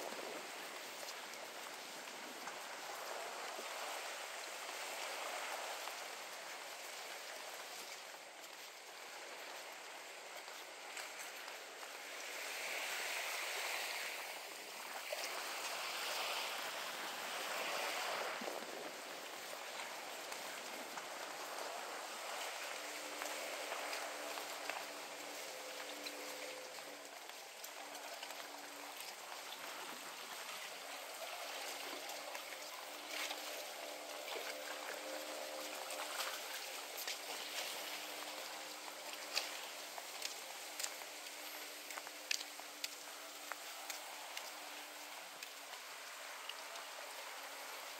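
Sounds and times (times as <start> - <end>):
wind and water hiss: 0.0 - 47.9.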